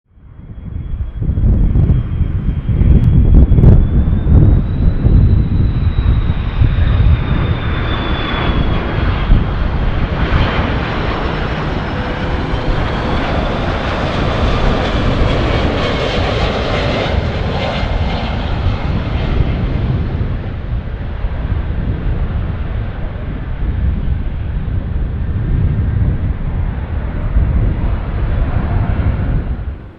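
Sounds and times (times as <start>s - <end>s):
jet engines flying past: 0.1s - 29.9s
wind noise on microphone: 0.1s - 29.9s.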